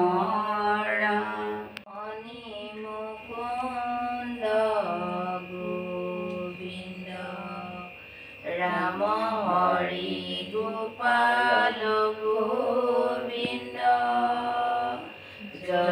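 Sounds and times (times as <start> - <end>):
women chanting prayers: 0.0 - 15.9.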